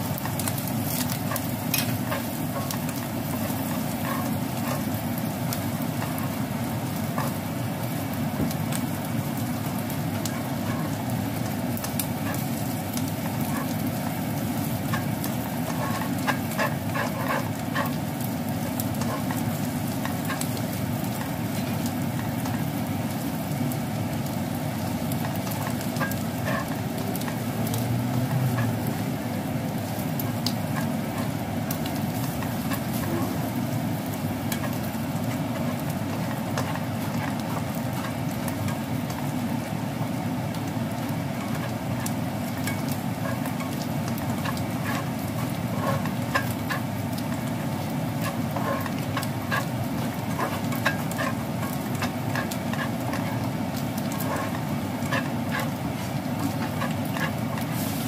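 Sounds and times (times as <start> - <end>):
spatula scraping a pan: 0.0 - 8.0, 10.1 - 22.7, 24.8 - 29.1, 29.9 - 58.0
food sizzling in oil: 0.0 - 58.0.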